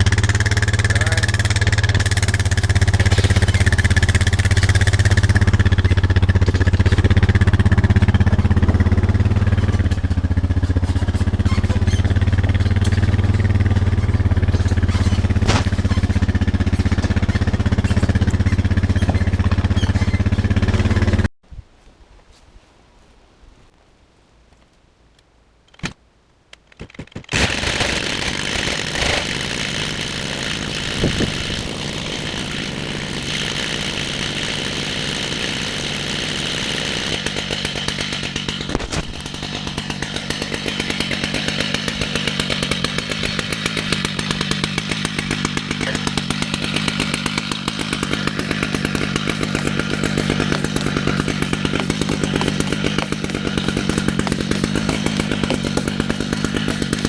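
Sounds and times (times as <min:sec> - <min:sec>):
chainsaw cutting log: 0:00.0 - 0:21.3, 0:26.8 - 0:57.0.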